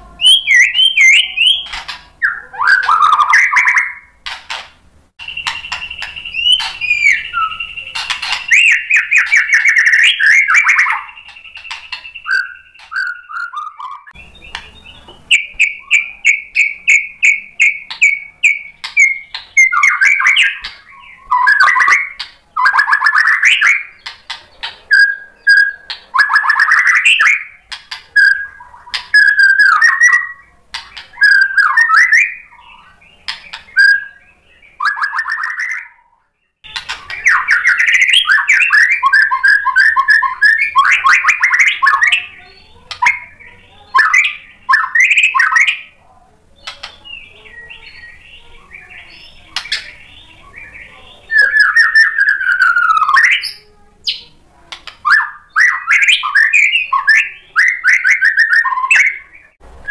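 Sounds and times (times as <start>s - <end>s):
songbird singing varied song: 0.0s - 4.3s, 5.2s - 59.9s.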